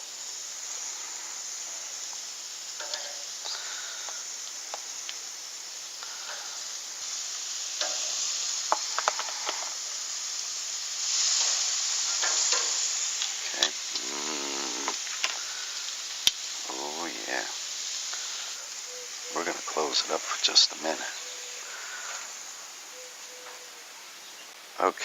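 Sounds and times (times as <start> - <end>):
chicken sizzling on grill: 0.0 - 25.0.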